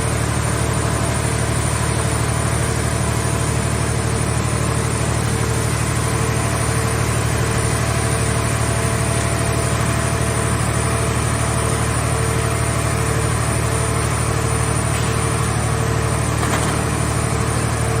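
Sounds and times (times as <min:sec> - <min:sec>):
engine droning steadily: 0:00.0 - 0:18.0.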